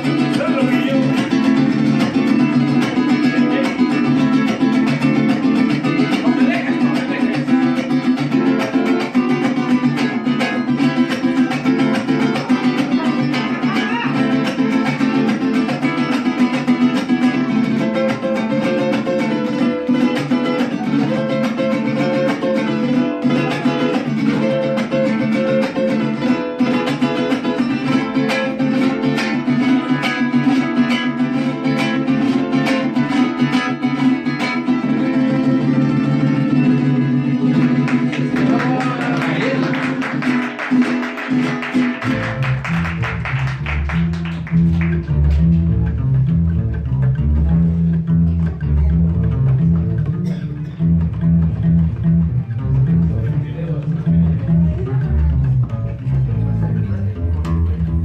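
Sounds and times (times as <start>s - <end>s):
mariachi band playing: 0.0s - 58.0s
strummed guitars: 0.0s - 58.0s.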